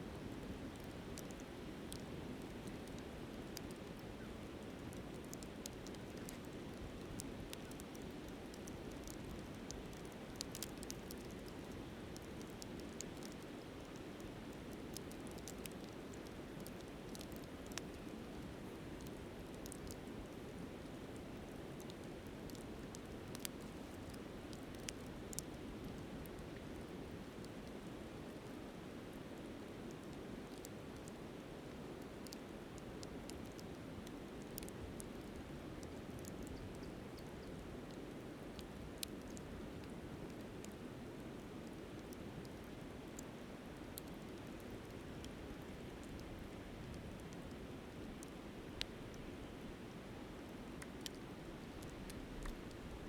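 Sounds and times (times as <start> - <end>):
campfire crackling and popping: 0.2 - 28.5, 29.4 - 49.1, 50.7 - 52.9.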